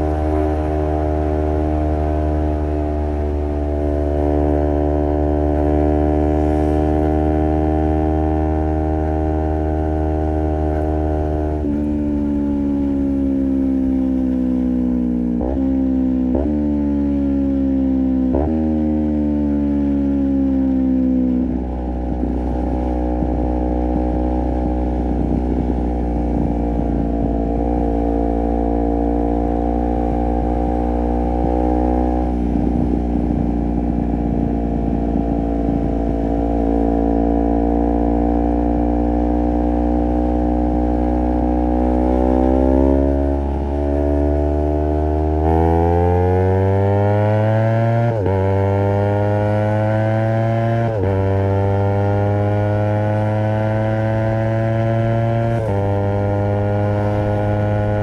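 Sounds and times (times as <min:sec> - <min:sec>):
motorcycle engine while riding: 0:00.0 - 0:58.0.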